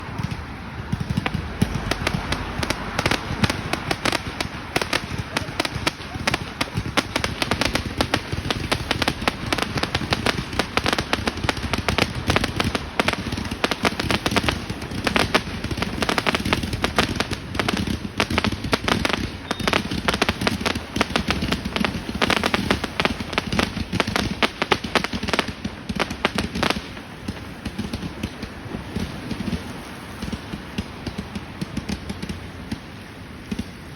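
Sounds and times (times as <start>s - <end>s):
fireworks cracks and bangs: 0.0s - 33.9s.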